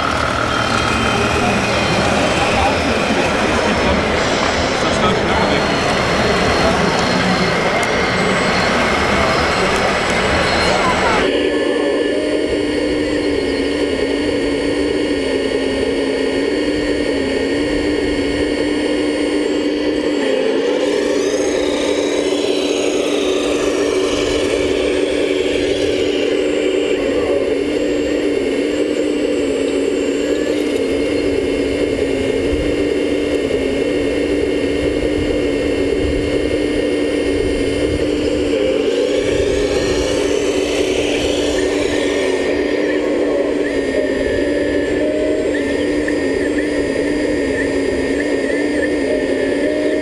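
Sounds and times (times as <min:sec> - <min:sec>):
electric motor whine: 0:00.0 - 0:50.0
higher whine: 0:00.0 - 0:50.0.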